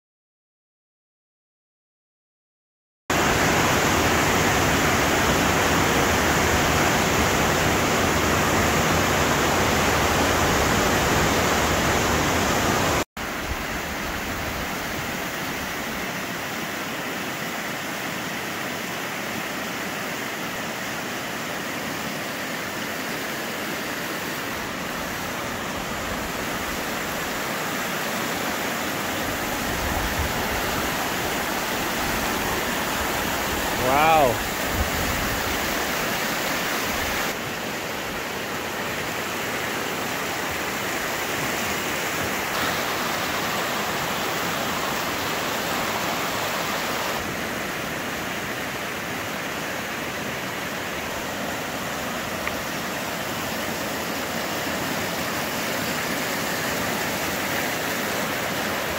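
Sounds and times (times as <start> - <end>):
river rapids roaring: 3.1 - 58.9.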